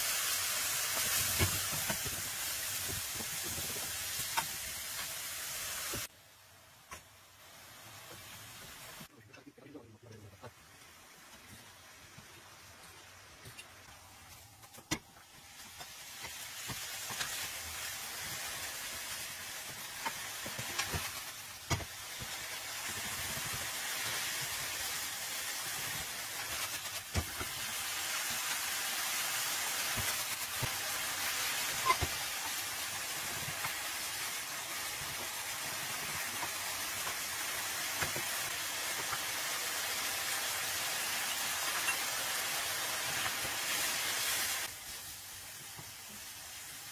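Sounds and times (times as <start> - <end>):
food sizzling in a frying pan: 0.0 - 6.1, 6.7 - 9.1, 10.1 - 46.9.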